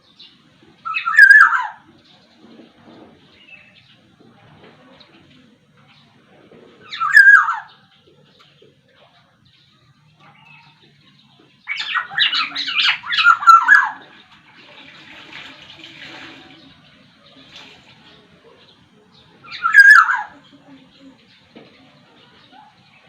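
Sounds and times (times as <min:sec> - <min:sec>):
oriole calling: 0:00.0 - 0:02.7, 0:03.4 - 0:14.9, 0:16.0 - 0:23.0.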